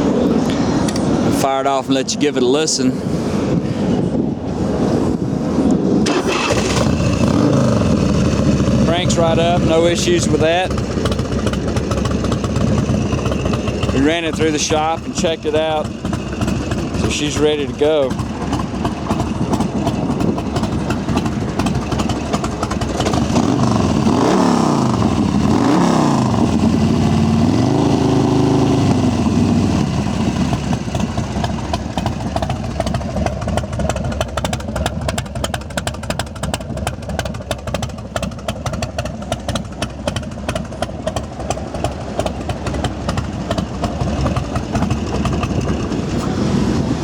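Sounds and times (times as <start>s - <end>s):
motorcycle engine revving and idling: 0.0s - 47.0s.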